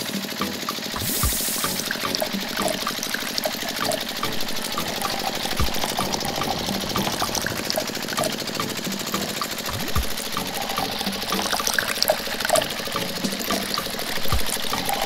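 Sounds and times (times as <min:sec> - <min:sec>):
small electric motor buzzing: 0:00.0 - 0:15.0
liquid trickling and dripping: 0:00.9 - 0:15.0.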